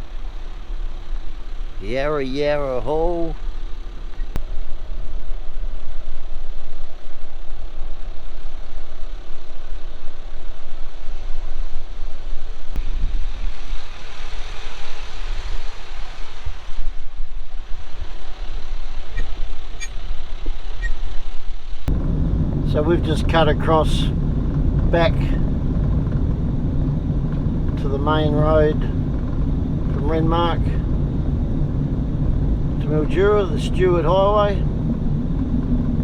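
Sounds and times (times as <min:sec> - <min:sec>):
vehicle engine and road rumble: 0:00.0 - 0:36.0.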